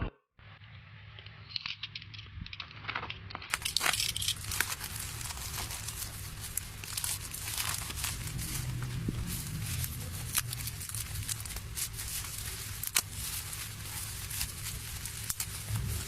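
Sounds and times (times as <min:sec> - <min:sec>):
packaging crinkling and tearing: 0:02.8 - 0:16.0.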